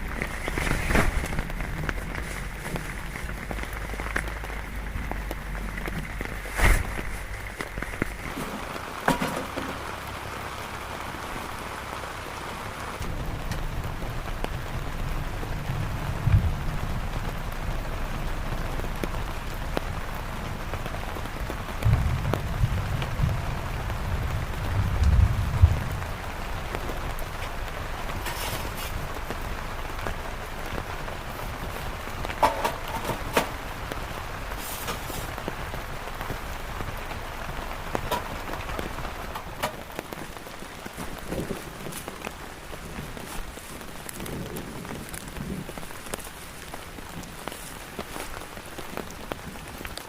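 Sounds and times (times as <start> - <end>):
low rumbles: 0.0 - 49.8
heavy rain falling: 0.0 - 50.0.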